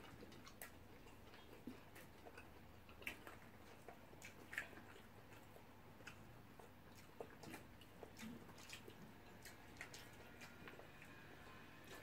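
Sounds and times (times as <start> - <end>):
faint chewing: 0.0 - 12.0.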